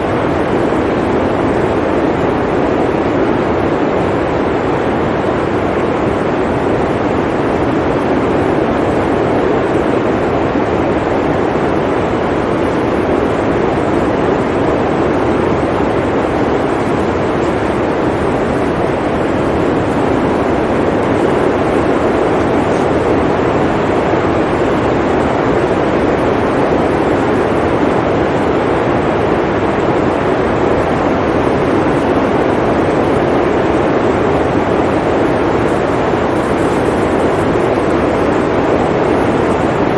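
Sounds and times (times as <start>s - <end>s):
blizzard wind blowing: 0.0s - 39.9s.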